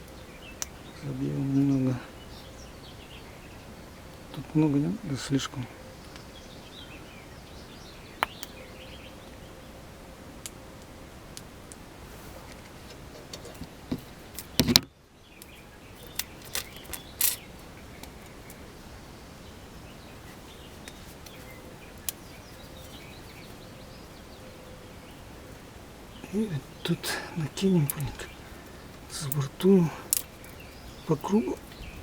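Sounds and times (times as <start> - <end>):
faint bird calls: 0.0 - 11.0, 15.2 - 32.0.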